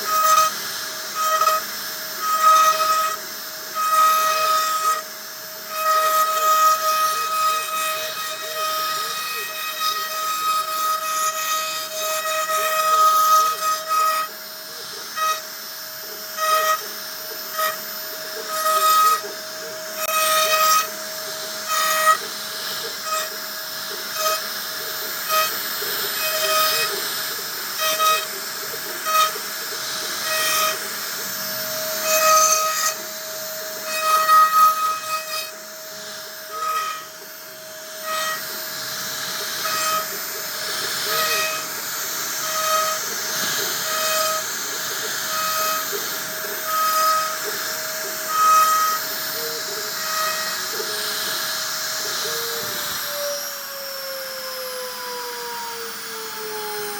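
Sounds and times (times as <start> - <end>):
router spindle whine cutting wood: 0.0 - 56.9.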